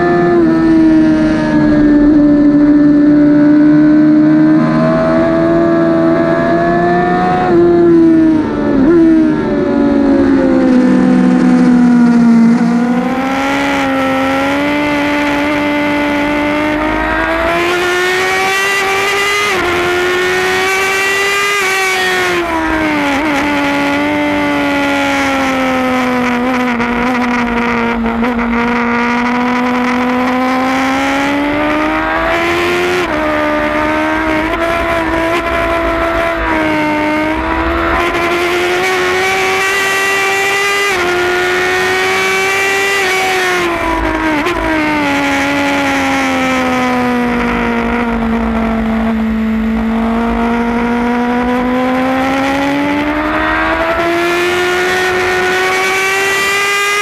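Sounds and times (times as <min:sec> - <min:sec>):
motorcycle engine at racing speed: 0:00.0 - 0:57.0.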